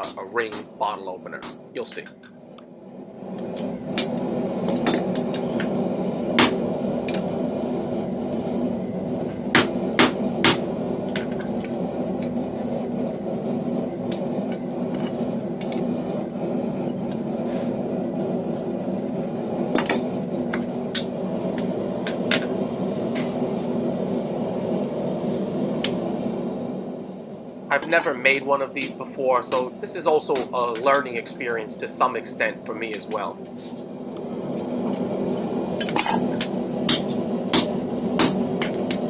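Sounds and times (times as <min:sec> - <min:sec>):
steady hum: 0:00.0 - 0:39.0.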